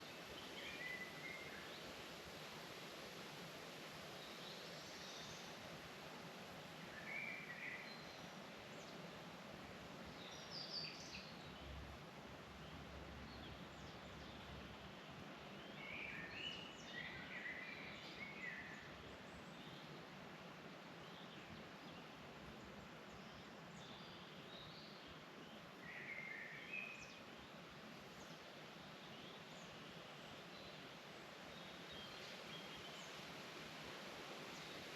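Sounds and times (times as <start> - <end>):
faint background hiss: 0.0 - 34.9
songbirds chirping: 0.0 - 34.9.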